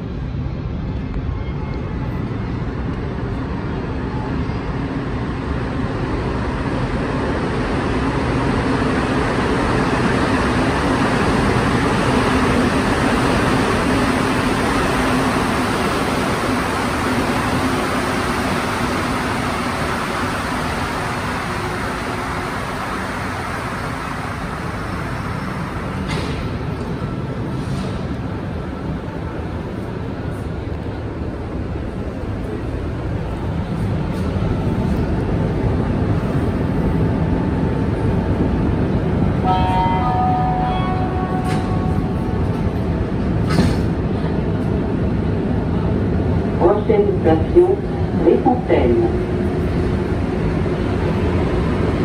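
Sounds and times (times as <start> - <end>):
metro train pulling in and braking: 0.0 - 52.0.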